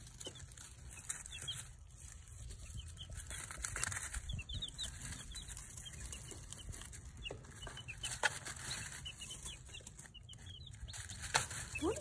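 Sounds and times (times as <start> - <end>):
baby chicks peeping: 0.0 - 12.0
wood shavings rustling: 0.0 - 12.0.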